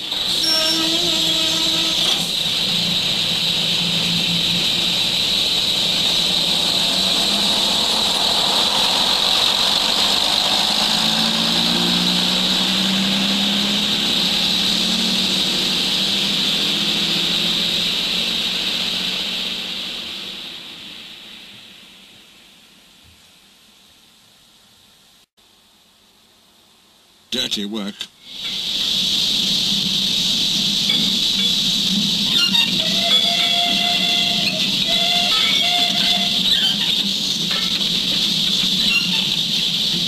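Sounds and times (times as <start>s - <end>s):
constant hiss: 0.0s - 10.9s, 15.6s - 40.0s
diesel locomotive engine humming: 0.0s - 22.4s, 28.3s - 40.0s.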